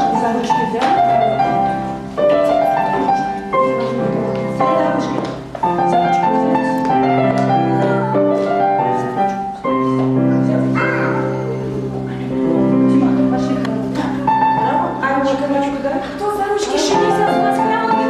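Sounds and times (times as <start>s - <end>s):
piano melody with chords: 0.0s - 18.0s.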